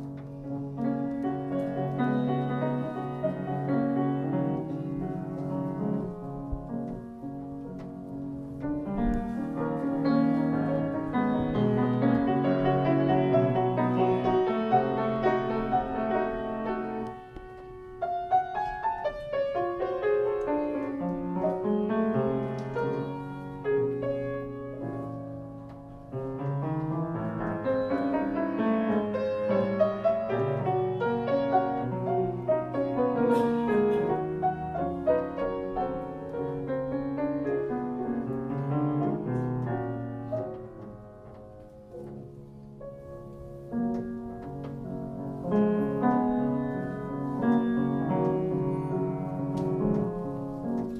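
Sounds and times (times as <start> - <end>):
solo piano: 0.0 - 50.9.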